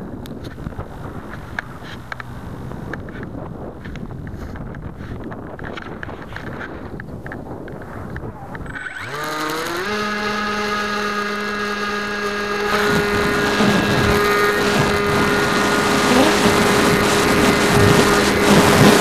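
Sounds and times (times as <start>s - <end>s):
electric motor and propeller whine: 0.0s - 19.0s
wind rushing over microphone: 0.0s - 19.0s.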